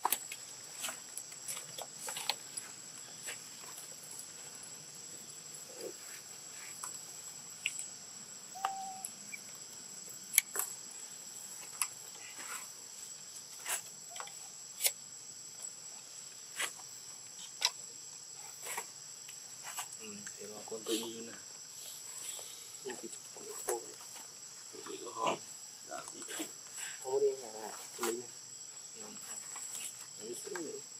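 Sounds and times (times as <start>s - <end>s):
forest insects droning: 0.0s - 30.9s.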